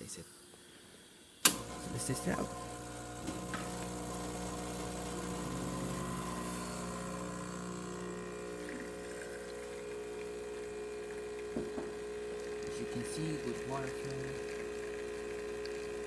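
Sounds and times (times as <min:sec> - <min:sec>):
water hissing through machine: 0:00.7 - 0:16.0
pump humming: 0:01.4 - 0:16.0.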